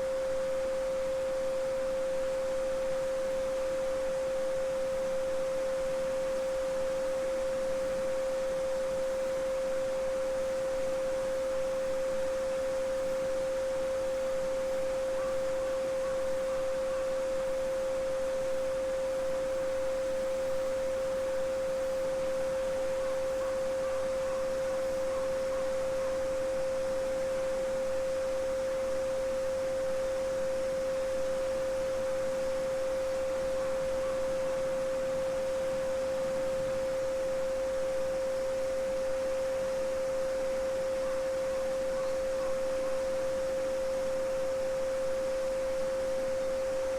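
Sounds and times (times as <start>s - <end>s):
pure sine tone: 0.0s - 46.9s.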